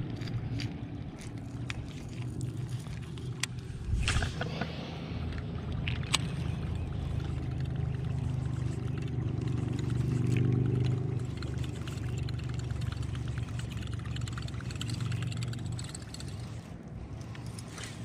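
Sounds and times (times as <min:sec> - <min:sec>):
boat motor hum: 0:00.0 - 0:18.0
water lapping at hull: 0:00.5 - 0:18.0.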